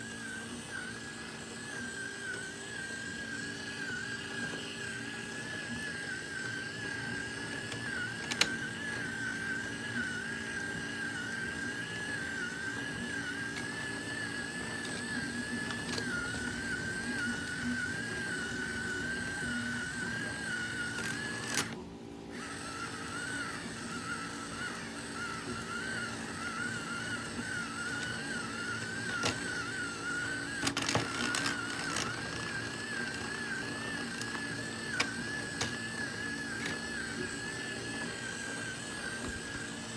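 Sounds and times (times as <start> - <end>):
small electric motor whining: 0.0 - 39.9.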